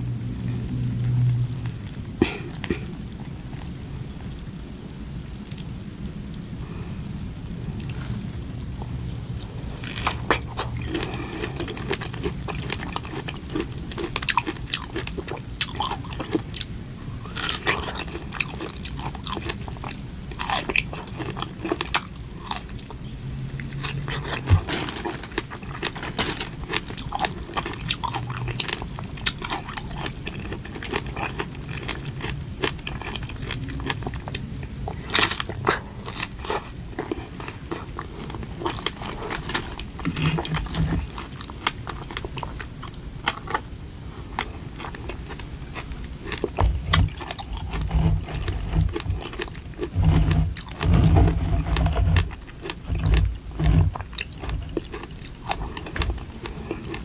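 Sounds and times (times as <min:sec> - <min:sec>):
chewing and crunching: 0:07.7 - 0:57.0.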